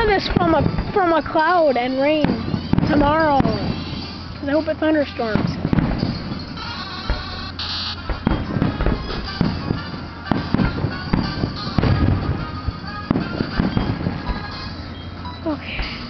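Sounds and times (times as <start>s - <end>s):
firework crackle: 0.0s - 16.0s
firework shells bursting: 0.0s - 16.0s.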